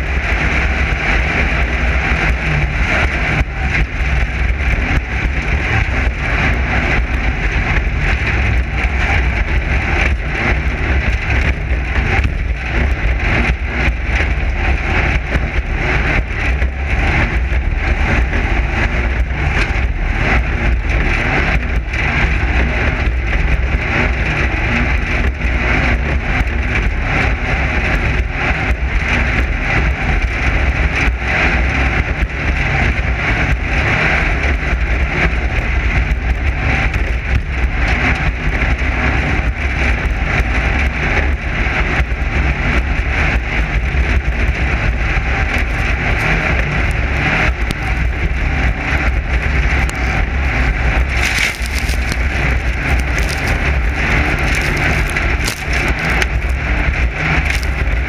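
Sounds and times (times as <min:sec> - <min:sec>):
chassis and suspension rattling: 0:00.0 - 0:58.0
race car engine rumble: 0:00.0 - 0:58.0.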